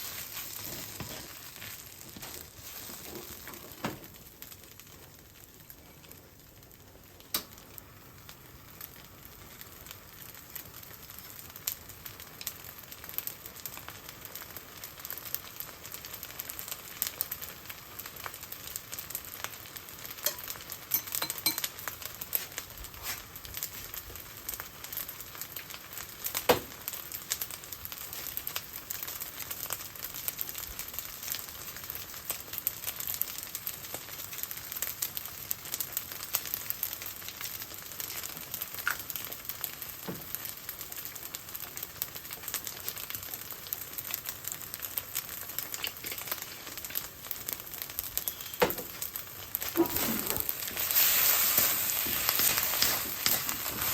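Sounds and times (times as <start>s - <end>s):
fried rice sizzling in pan: 0.0s - 53.9s.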